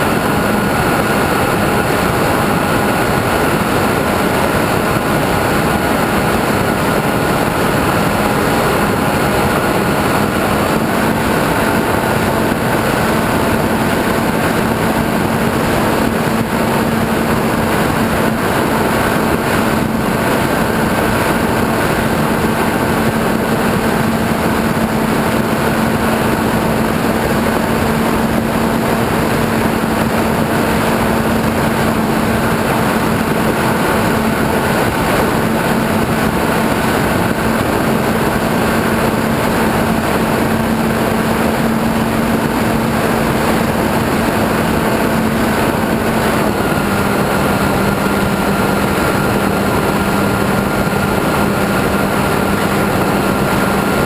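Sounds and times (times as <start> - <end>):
model airplane motor droning: 0.0 - 54.0
wind rush on microphone: 0.0 - 54.0.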